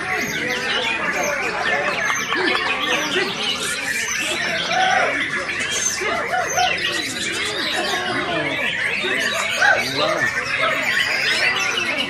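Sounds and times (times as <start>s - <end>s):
songbirds chorus chirping: 0.0s - 12.0s.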